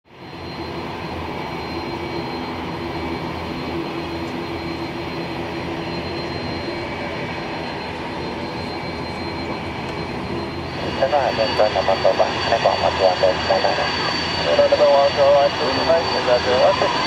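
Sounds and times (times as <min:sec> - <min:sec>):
jet engines running: 0:00.1 - 0:17.0.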